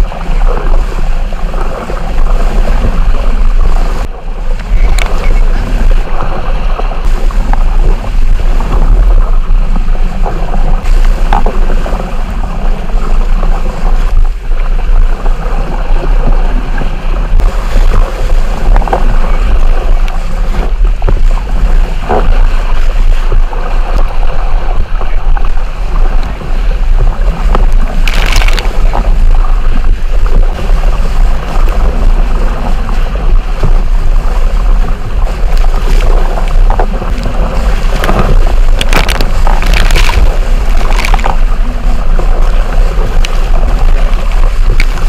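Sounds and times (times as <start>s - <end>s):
water rushing past hulls: 0.0s - 45.0s
wind buffeting microphone: 0.0s - 45.0s.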